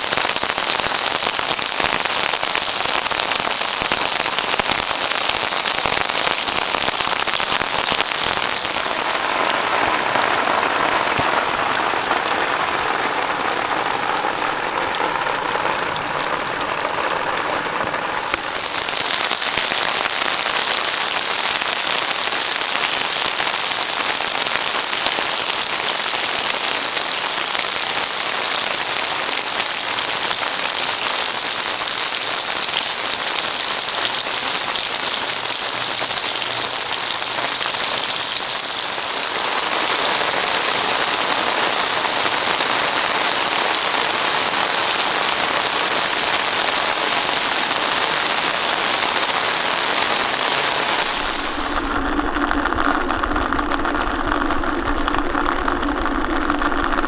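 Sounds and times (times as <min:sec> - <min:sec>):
heavy rain on concrete roof: 0:00.0 - 0:57.0.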